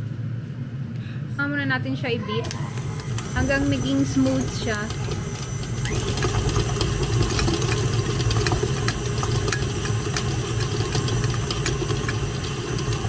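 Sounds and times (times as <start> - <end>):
electric mixer running: 2.4 - 13.0.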